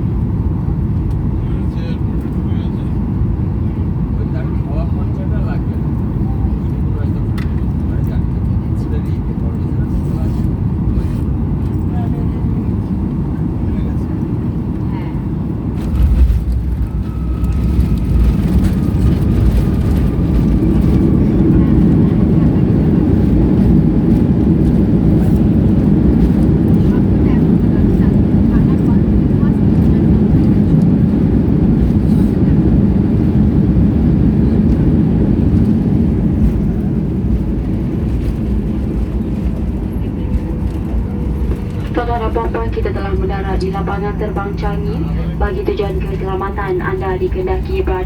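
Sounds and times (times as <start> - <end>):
jet engines: 0.0 - 48.0
wheels rumbling on runway: 0.2 - 48.0.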